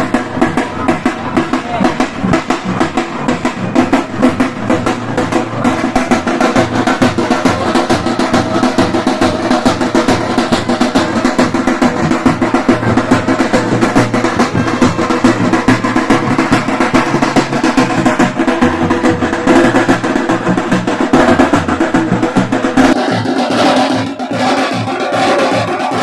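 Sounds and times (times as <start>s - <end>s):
fast drumming: 0.0s - 26.0s.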